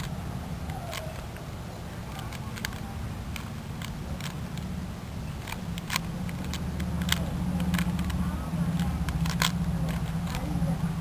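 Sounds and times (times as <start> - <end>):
puzzle cube plastic clicks: 0.0 - 1.5, 2.1 - 4.7, 5.4 - 10.6
steady low rumble: 0.0 - 11.0.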